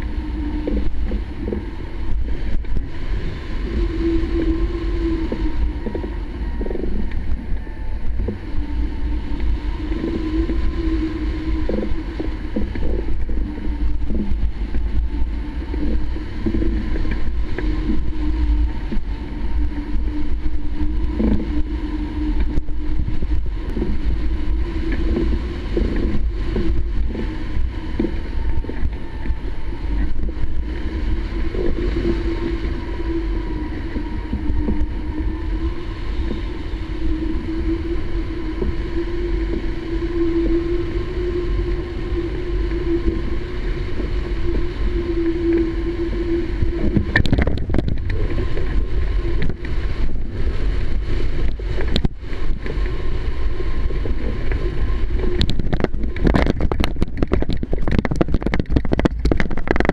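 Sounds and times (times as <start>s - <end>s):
wavering hum: 0.0s - 59.9s
wind roar on microphone: 0.0s - 59.9s.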